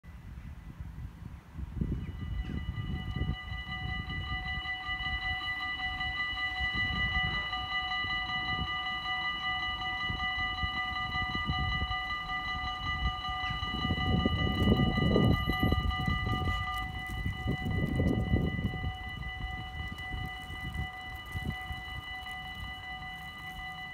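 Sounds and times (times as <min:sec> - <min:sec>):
level-crossing warning bells: 0:01.4 - 0:23.9.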